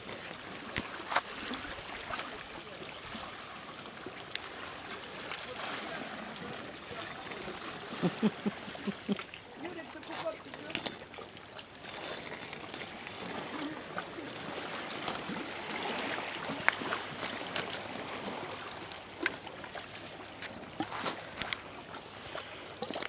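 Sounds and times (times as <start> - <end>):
sea water lapping against rocks: 0.0 - 23.0.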